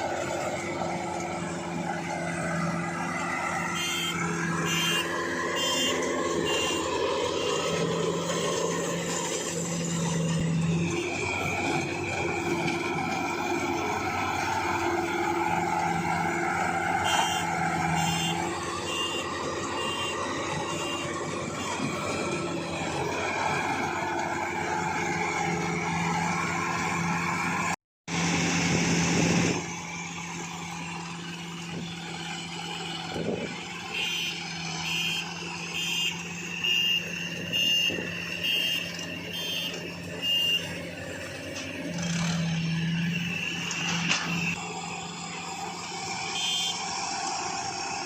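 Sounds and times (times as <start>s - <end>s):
harvester engine running: 0.0s - 48.0s.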